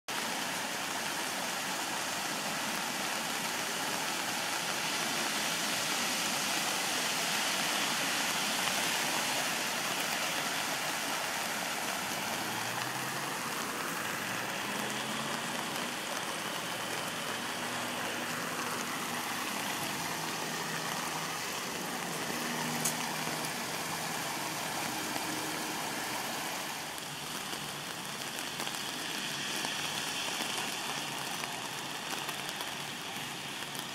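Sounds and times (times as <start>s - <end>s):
water rushing: 0.1s - 33.9s.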